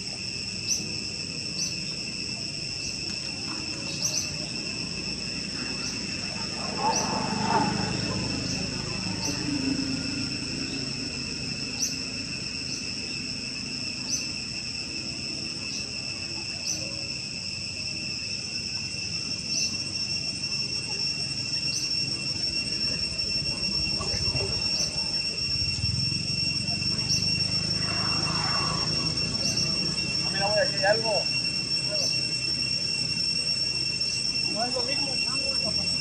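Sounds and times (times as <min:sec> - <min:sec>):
high-pitched insect chorus: 0:00.0 - 0:36.0
short rising chirps: 0:03.8 - 0:18.2, 0:19.0 - 0:36.0.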